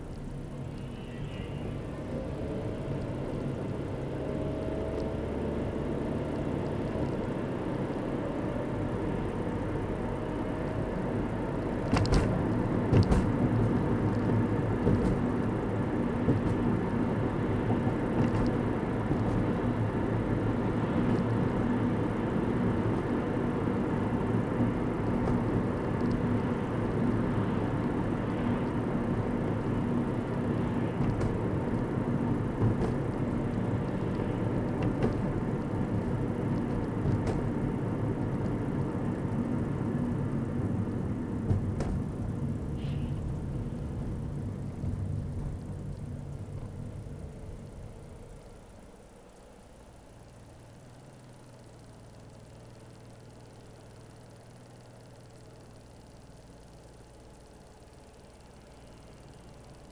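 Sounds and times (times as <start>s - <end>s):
car driving heard from cabin: 0.0s - 59.9s.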